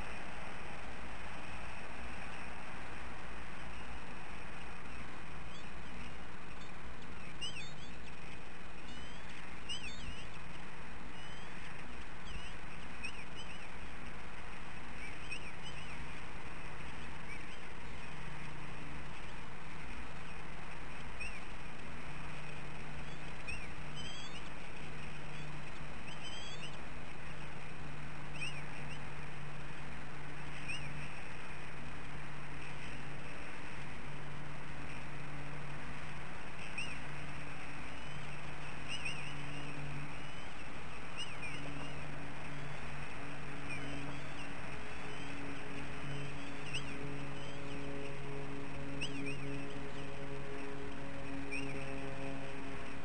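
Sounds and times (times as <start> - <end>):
low hum: 0.0 - 53.0
steady hiss: 0.0 - 53.0.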